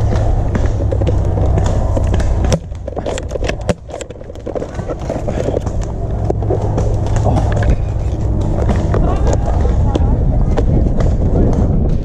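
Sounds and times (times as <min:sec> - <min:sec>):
low rumbling noise: 0:00.0 - 0:12.0
sharp clicks and knocks: 0:00.0 - 0:12.0.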